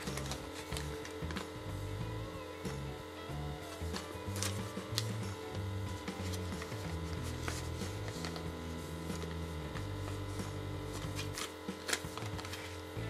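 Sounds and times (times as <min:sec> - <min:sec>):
background music with low bass: 0:00.0 - 0:13.0.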